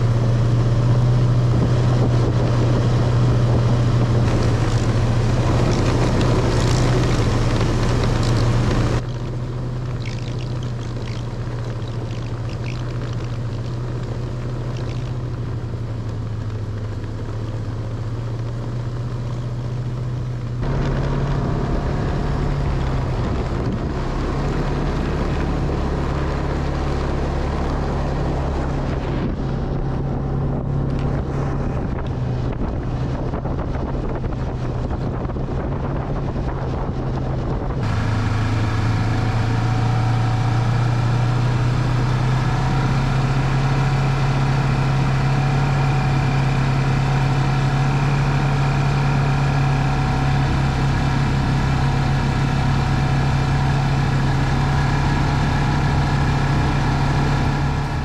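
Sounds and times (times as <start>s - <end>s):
wind noise on microphone: 0.0s - 19.0s, 20.2s - 58.0s
snowmobile engine running: 0.0s - 58.0s.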